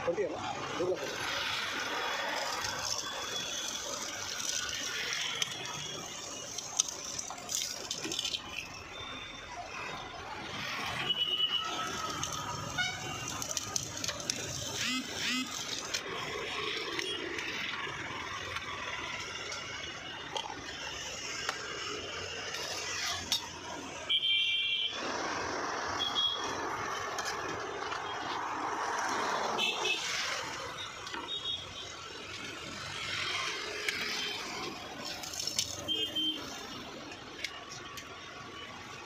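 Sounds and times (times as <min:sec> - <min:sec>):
street traffic: 0:00.0 - 0:39.0.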